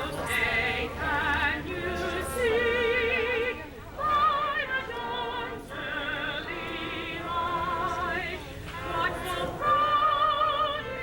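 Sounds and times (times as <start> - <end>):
solo voice singing with vibrato: 0.0 - 11.0.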